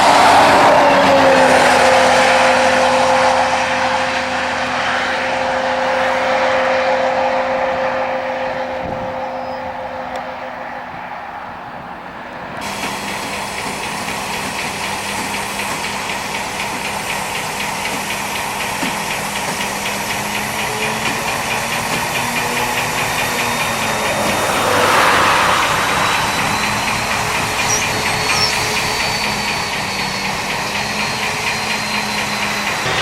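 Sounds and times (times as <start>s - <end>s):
diesel locomotive engine humming: 0.0s - 33.0s.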